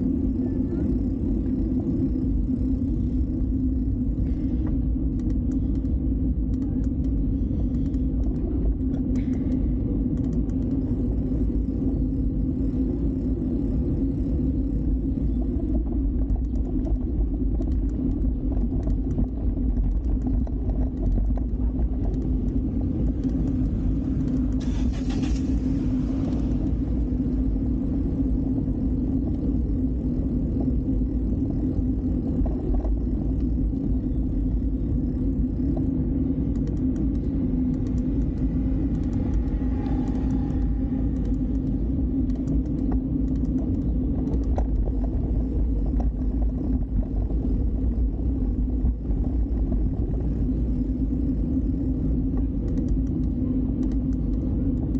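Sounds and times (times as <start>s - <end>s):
city traffic rumble: 0.0s - 54.9s.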